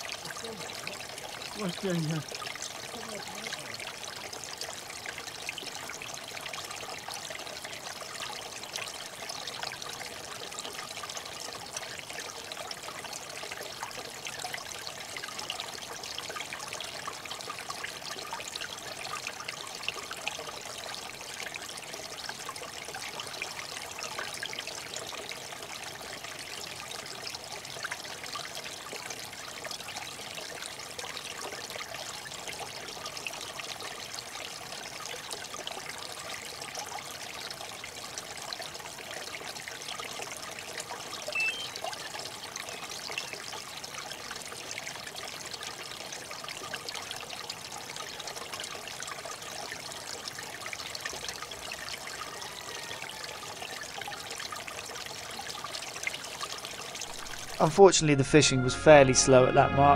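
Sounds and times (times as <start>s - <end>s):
water trickling and splashing: 0.0s - 57.6s.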